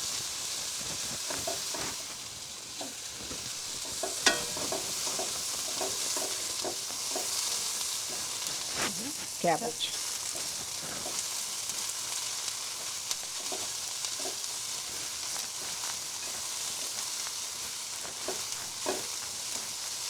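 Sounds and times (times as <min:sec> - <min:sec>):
vegetables sizzling in oil: 0:00.0 - 0:20.0
spatula tapping pan: 0:01.1 - 0:02.0, 0:02.8 - 0:08.6, 0:10.3 - 0:20.0.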